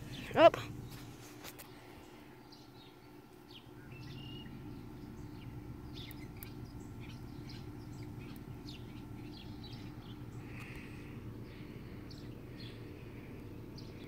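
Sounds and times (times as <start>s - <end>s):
faint bird chirps: 0.0s - 14.0s
steady low hum: 0.0s - 14.0s.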